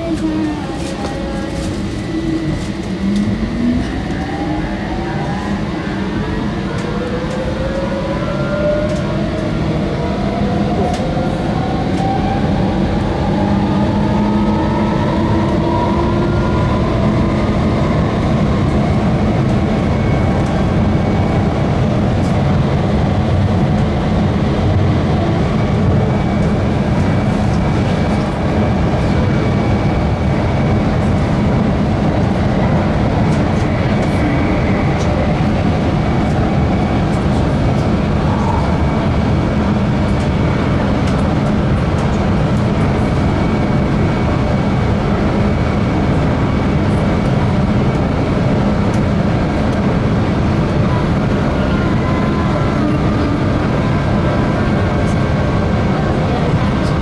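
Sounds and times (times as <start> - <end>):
train rumble in tunnel: 0.0 - 57.0.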